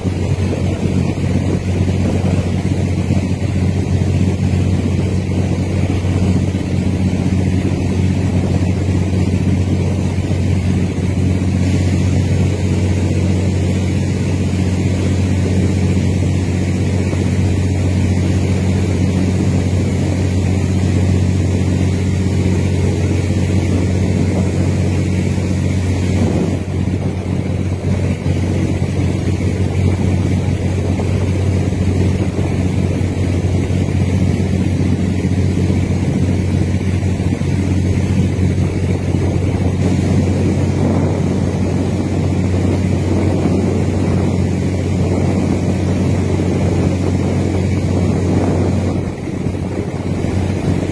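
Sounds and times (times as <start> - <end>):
boat engine humming: 0.0 - 50.9
wind buffeting microphone: 0.0 - 50.9.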